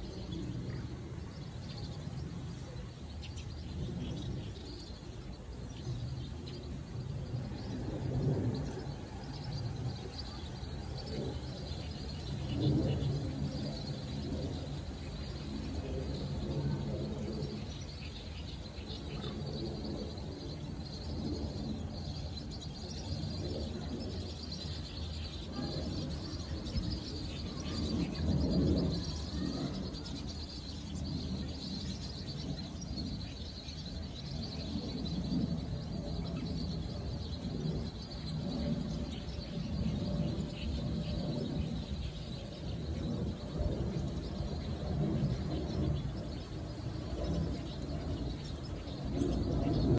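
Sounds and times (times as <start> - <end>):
flock of birds chirping: 0.0 - 49.9
low outdoor rumble: 0.0 - 49.9.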